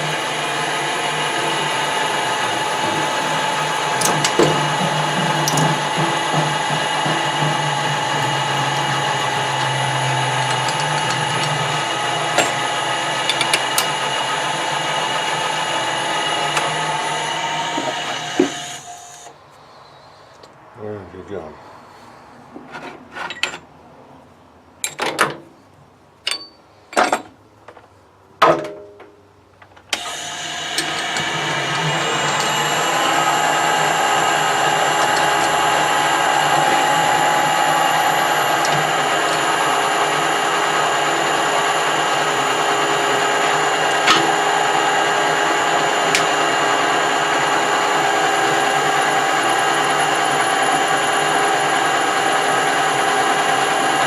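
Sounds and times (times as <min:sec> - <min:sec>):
machine tool motor humming: 0:00.0 - 0:19.3, 0:30.0 - 0:54.0.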